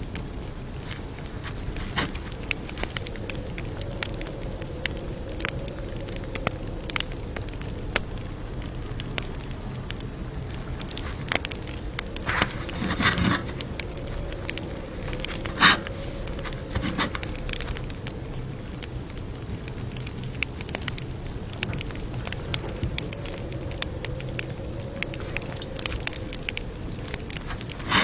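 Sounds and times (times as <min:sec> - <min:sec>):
campfire crackling and popping: 0:00.0 - 0:28.0
low rumble of burning wood: 0:00.0 - 0:28.0.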